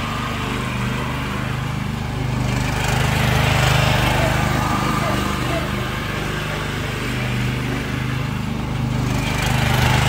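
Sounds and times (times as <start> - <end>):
small petrol engine running: 0.0 - 10.0.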